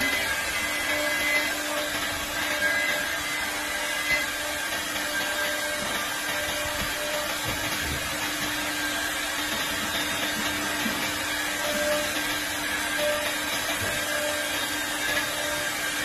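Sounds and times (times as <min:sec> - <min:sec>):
spindle motor whine: 0:00.0 - 0:16.0.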